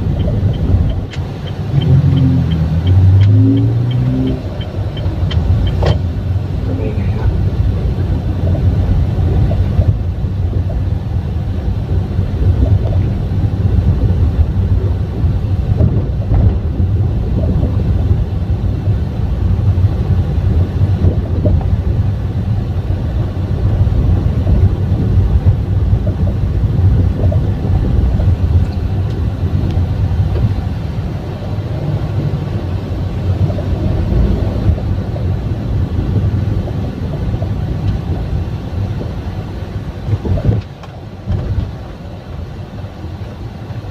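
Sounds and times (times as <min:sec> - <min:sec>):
tyres rumbling on road: 0:00.0 - 0:43.9.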